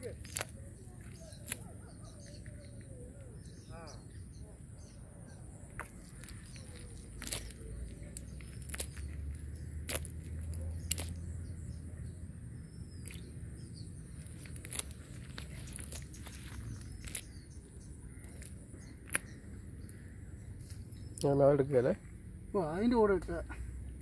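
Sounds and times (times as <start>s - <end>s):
faint bird chirp: 0.0s - 24.0s.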